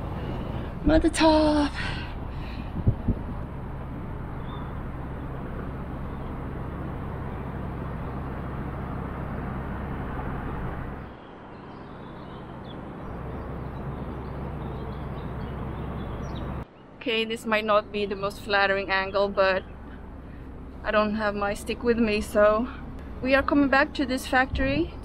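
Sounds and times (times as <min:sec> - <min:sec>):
outdoor rumble and hiss: 0:00.0 - 0:25.0.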